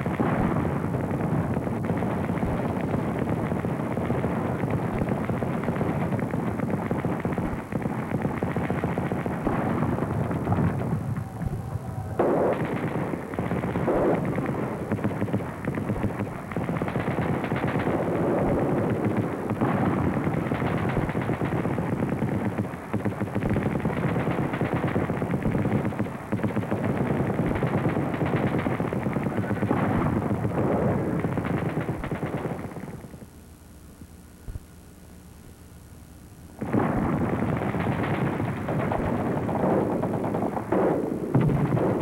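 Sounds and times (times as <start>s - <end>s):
rapid gunfire: 0.0s - 33.3s, 36.6s - 42.0s.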